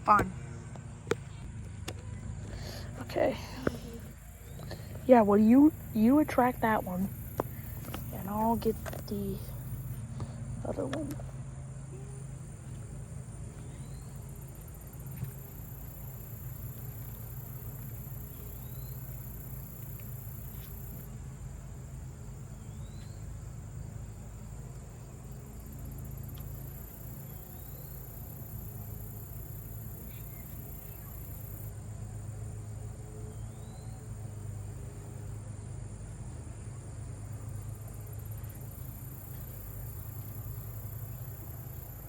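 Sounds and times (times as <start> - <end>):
crickets trilling: 0.0 - 42.0
low steady hum: 0.0 - 42.0.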